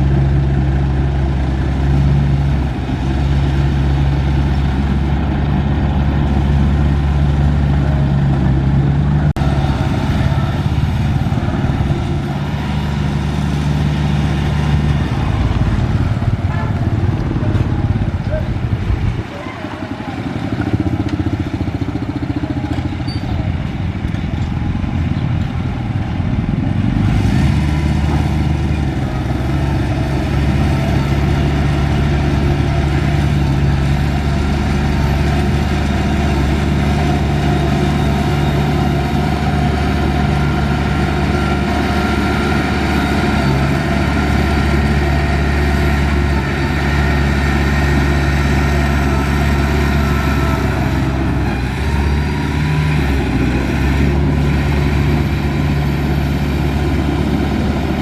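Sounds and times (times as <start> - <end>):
heavy diesel engine working: 0.0 - 58.0.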